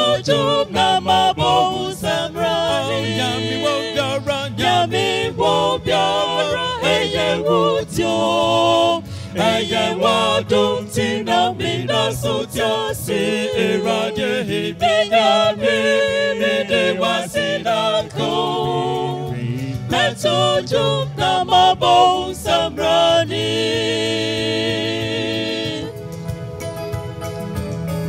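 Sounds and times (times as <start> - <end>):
vocal group singing in harmony: 0.0 - 26.2
low musical accompaniment: 0.0 - 28.0.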